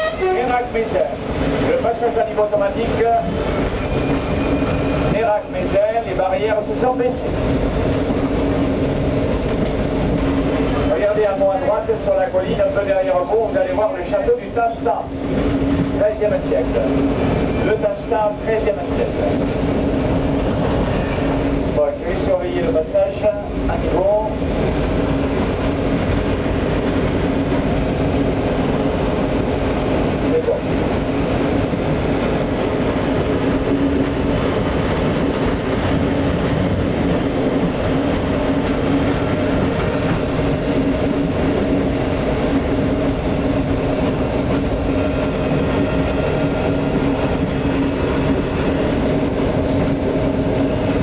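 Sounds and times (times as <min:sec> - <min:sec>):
locomotive engine running: 0:00.0 - 0:51.0
wheels rumbling on rails: 0:00.0 - 0:51.0.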